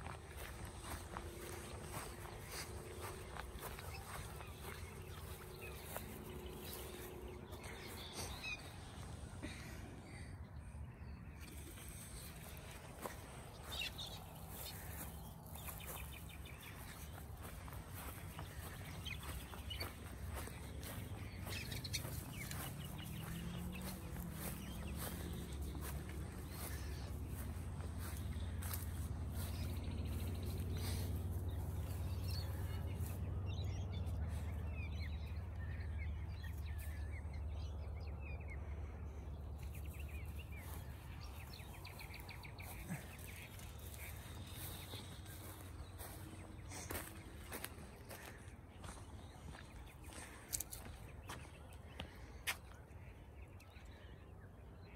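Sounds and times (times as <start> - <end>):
footsteps on grass: 0.0 - 9.7, 11.4 - 37.8, 39.5 - 52.8
small birds chirping: 0.0 - 54.9.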